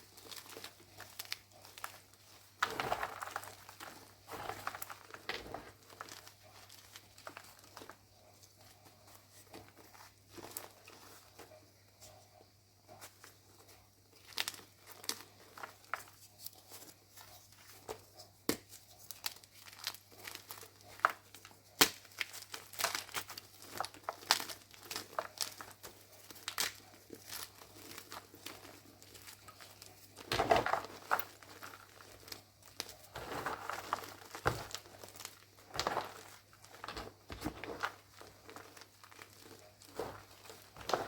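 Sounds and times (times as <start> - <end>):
chalk being crushed: 0.0 - 11.5, 14.2 - 41.0.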